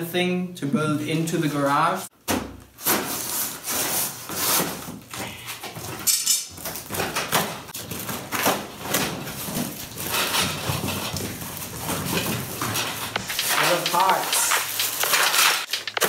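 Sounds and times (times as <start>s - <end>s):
cardboard scraping and rustling: 2.8s - 16.0s.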